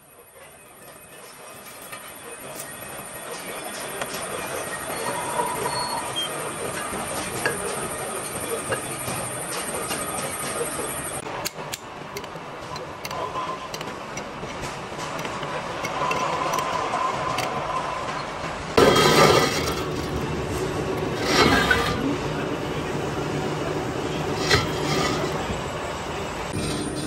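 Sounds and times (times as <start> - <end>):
workshop din: 0.0 - 27.0.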